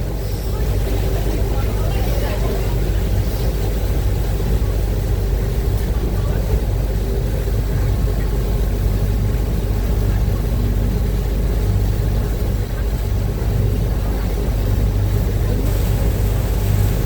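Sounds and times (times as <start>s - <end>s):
boat engines rumbling: 0.0s - 17.0s
rushing water: 0.0s - 17.0s.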